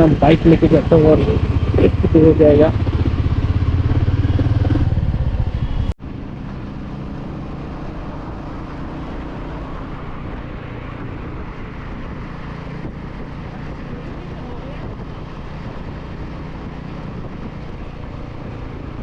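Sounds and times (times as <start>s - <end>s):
motorcycle engine running: 0.0s - 19.0s
road noise: 0.0s - 19.0s.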